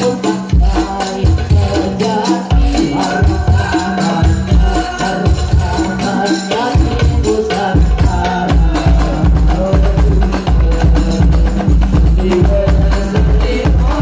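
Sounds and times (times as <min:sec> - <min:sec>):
loud music with heavy bass beat: 0:00.0 - 0:14.0.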